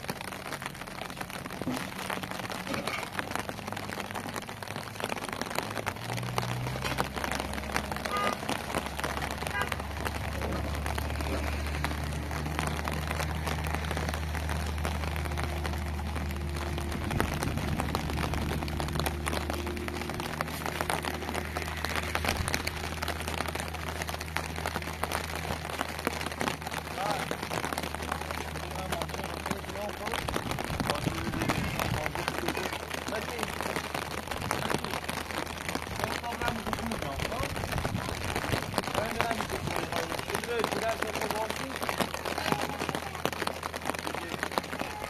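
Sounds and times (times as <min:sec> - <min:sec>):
drips on hard surfaces: 0:00.0 - 0:45.0
steady rain: 0:00.0 - 0:45.0.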